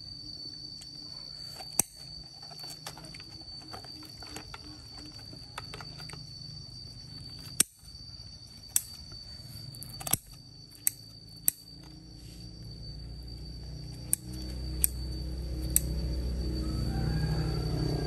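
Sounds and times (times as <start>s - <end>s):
faint high whine: 0.0s - 18.0s
low hum: 0.0s - 18.0s.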